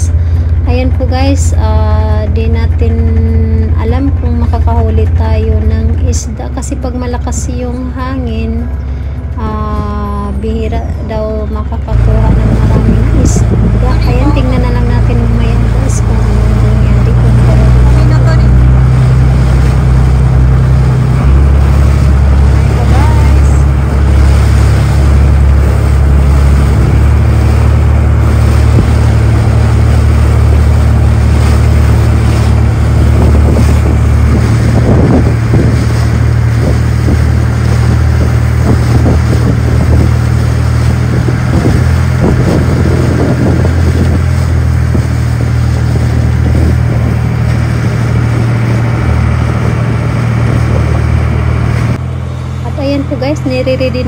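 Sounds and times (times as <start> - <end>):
boat engine droning: 0.0 - 54.0
water rushing past hull: 0.0 - 54.0
wind buffeting microphone: 0.0 - 54.0.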